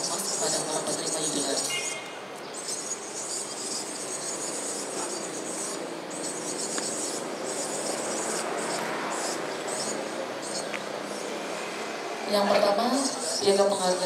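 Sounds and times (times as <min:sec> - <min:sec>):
insects buzzing: 0:00.0 - 0:14.0
outdoor background noise: 0:00.0 - 0:14.0.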